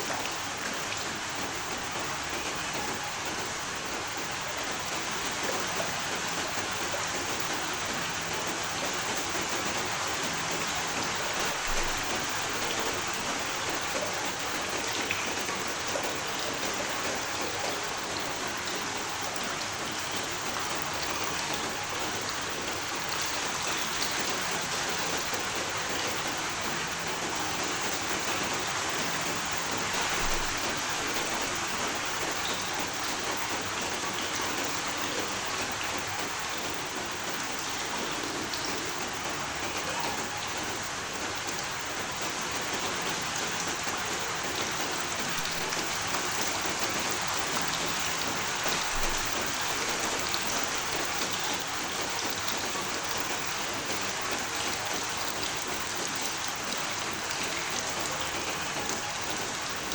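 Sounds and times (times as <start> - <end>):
raindrops striking a surface: 0.0 - 59.9
steady rain hiss: 0.0 - 59.9.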